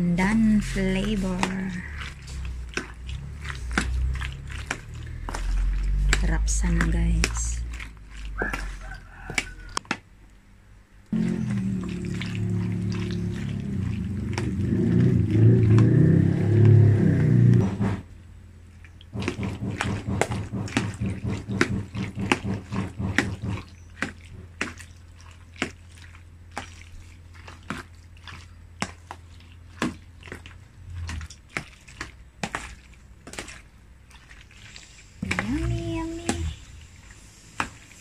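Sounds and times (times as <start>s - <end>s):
wet sticky squelches of mixing: 0.0s - 38.0s.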